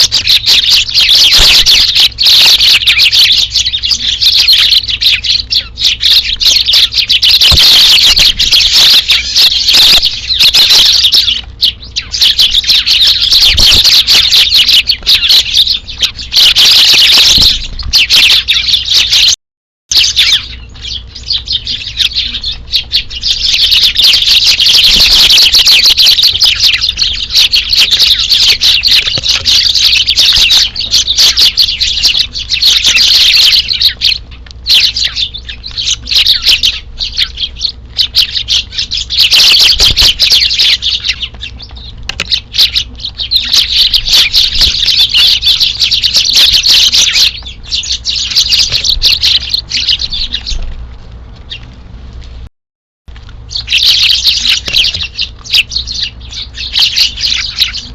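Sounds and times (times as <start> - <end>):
sparrows chirping: 0.0 - 52.4, 53.1 - 57.9.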